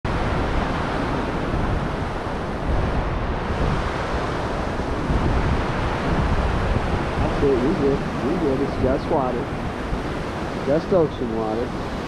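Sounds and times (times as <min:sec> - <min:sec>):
surf washing on beach: 0:00.1 - 0:12.0
wind buffeting microphone: 0:00.1 - 0:12.0.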